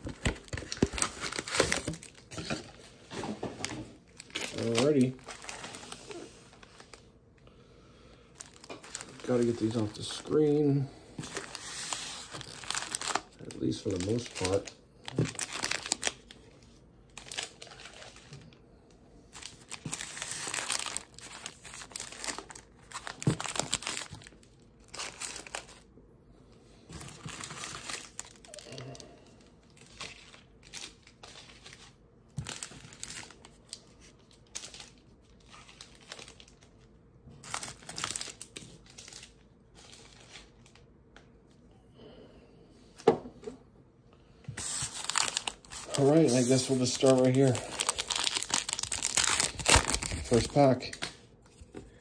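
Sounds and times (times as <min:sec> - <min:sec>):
wrapped packs crinkling: 0:00.0 - 0:07.1, 0:08.3 - 0:18.5, 0:19.3 - 0:25.9, 0:27.0 - 0:29.1, 0:29.7 - 0:40.9, 0:44.6 - 0:52.0.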